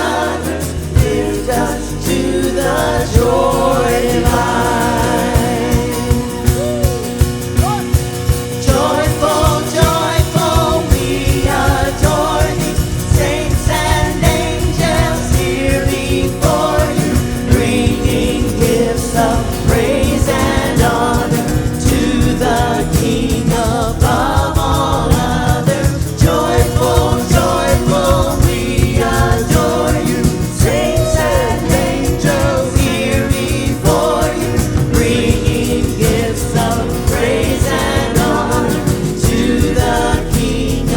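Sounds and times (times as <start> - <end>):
band playing gospel song: 0.0 - 40.9
people singing: 0.0 - 40.9.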